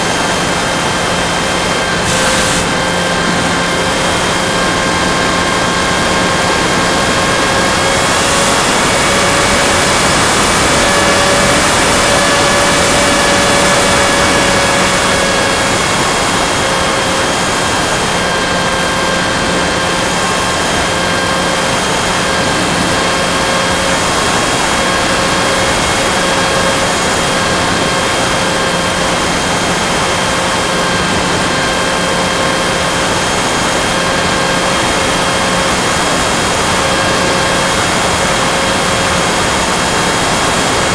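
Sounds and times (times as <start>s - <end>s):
propeller motor whine: 0.0s - 40.9s
rushing air noise: 0.0s - 40.9s.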